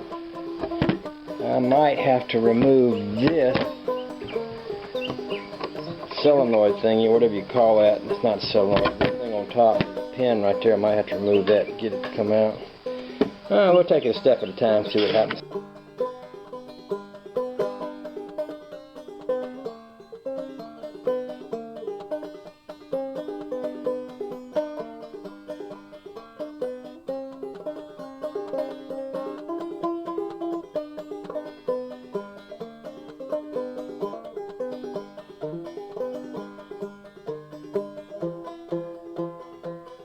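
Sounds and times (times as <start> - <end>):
bluegrass banjo music: 0.0 - 40.0.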